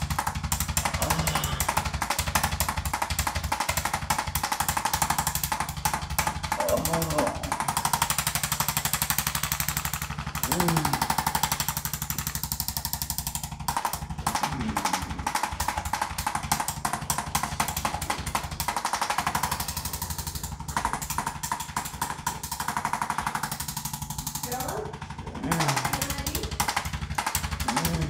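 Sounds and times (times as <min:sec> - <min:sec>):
rapid mechanical hammering: 0:00.0 - 0:28.0.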